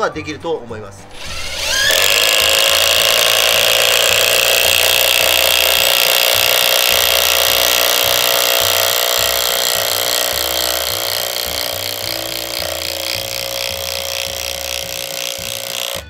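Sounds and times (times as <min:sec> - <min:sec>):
impact driver hammering: 0:01.2 - 0:16.0.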